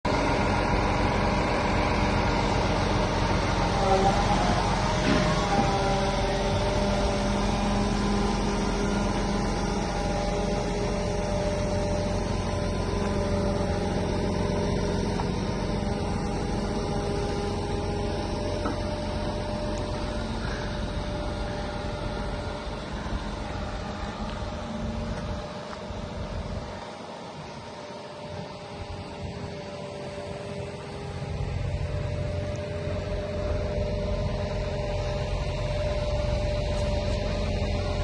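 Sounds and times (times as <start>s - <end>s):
diesel lorry engine running: 0.0s - 38.0s.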